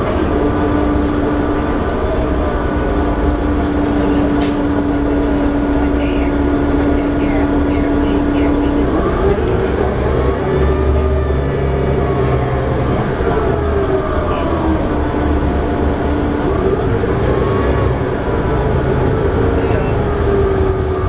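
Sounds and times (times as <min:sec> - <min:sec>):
bus engine and drivetrain drone: 0:00.0 - 0:21.0
road rumble: 0:00.0 - 0:21.0.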